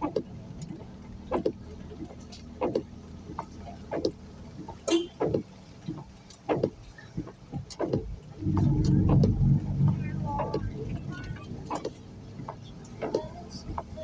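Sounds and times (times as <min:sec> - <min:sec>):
engine rumble: 0:00.0 - 0:14.0
vehicle knocks and bumps: 0:00.0 - 0:14.0.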